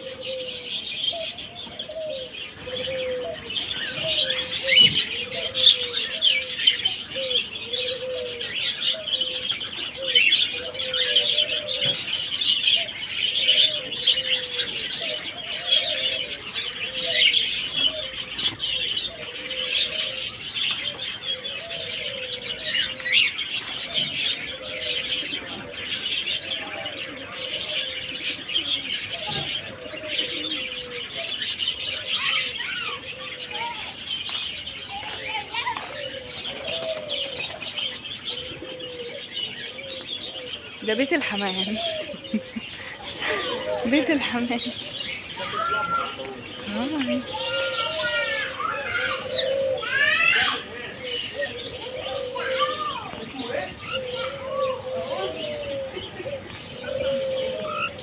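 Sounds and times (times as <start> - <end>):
birds chirping: 0.0 - 58.0
pigeons cooing: 0.0 - 58.0.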